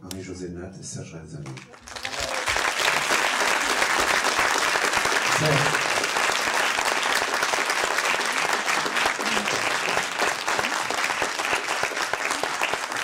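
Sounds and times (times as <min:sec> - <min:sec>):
audience applauding: 0:01.4 - 0:13.0.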